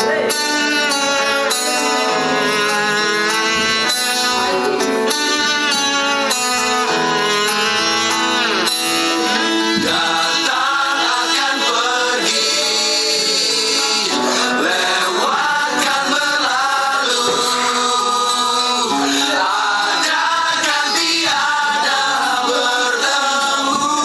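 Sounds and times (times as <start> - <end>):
person singing: 0.0 - 24.0
plucked guitar notes: 0.0 - 24.0.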